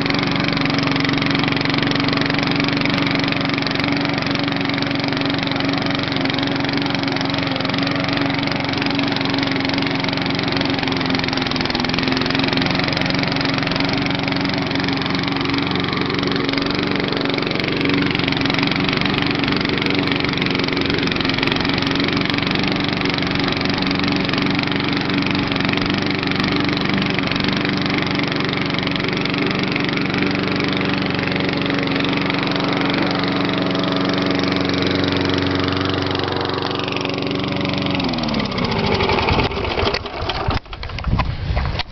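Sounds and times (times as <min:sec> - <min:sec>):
lawnmower engine running: 0:00.0 - 0:41.9.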